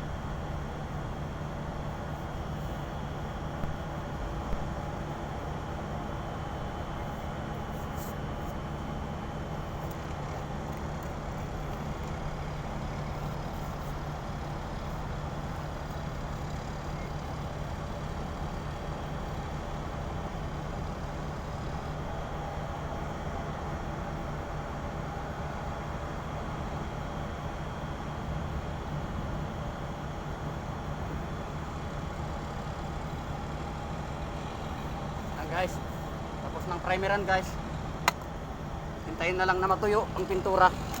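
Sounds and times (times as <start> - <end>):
ship machinery drone: 0.0 - 41.0.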